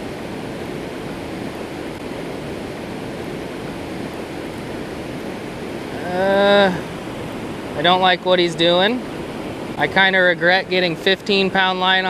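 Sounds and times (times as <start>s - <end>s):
river water rushing through spillway: 0.0s - 12.0s.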